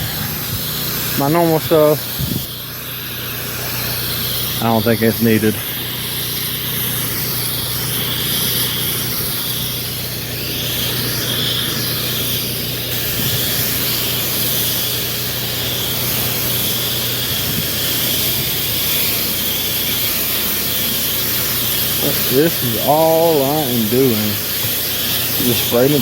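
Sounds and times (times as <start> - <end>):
pressure washer engine hum: 0.0 - 26.0
pressure washer spray hissing: 0.0 - 26.0.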